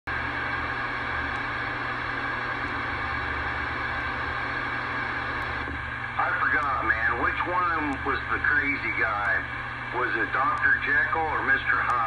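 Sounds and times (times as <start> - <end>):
radio static hiss: 0.1 - 12.0.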